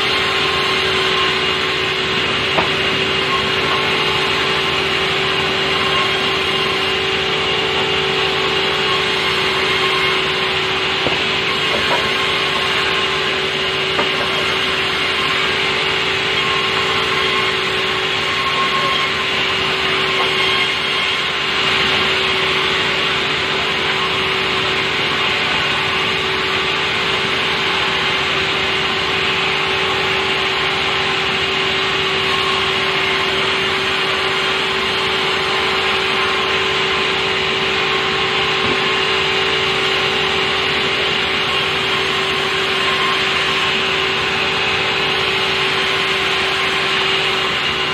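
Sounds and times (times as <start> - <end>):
sawmill saw cutting wood: 0.0 - 47.9.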